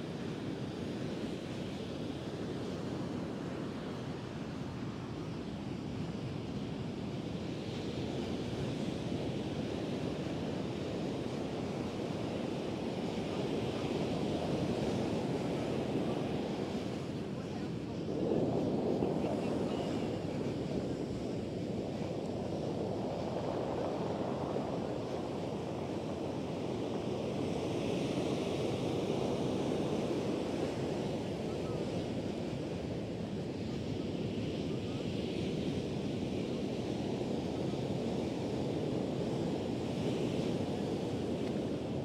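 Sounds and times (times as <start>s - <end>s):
wind on microphone: 0.0s - 42.0s.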